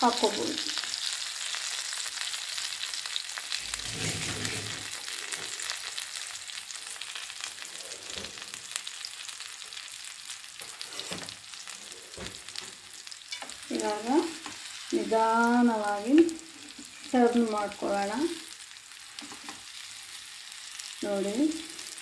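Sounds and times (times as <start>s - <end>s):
fish frying in oil: 0.0s - 22.0s.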